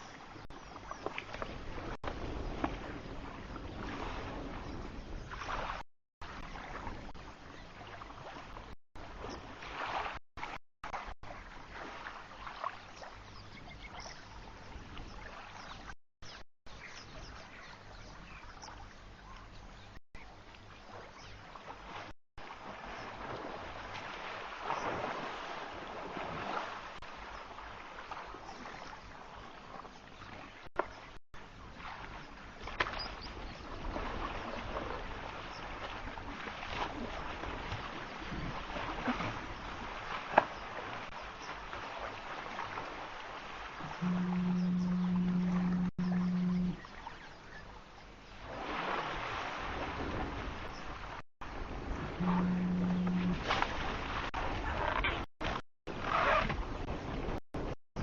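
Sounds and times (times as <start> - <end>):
water splashing and sloshing: 0.0 - 58.0.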